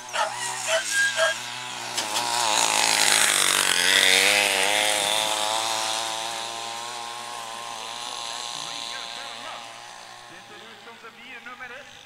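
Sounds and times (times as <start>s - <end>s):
motor winch running: 0.0s - 12.0s.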